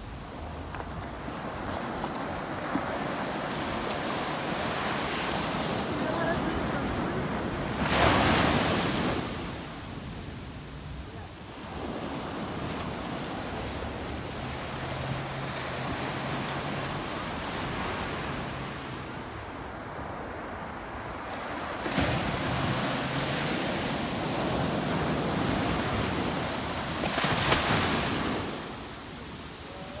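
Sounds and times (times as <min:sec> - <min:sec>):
small waves breaking on sand: 0:00.1 - 0:30.0.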